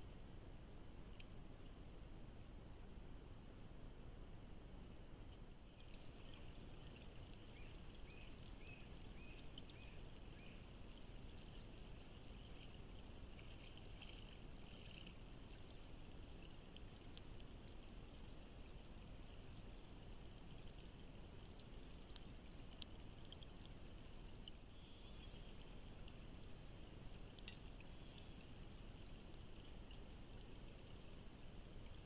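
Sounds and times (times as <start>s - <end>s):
small drips and clicks: 1.0s - 1.9s, 5.2s - 32.0s.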